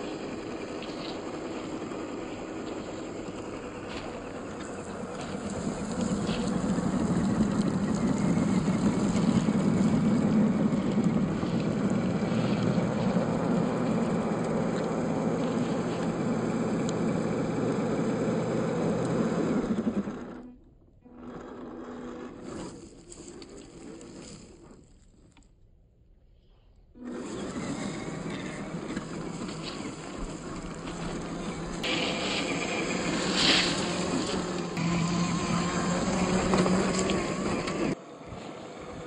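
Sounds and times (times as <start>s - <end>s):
electric motor whining: 0.0s - 24.6s, 27.0s - 38.0s.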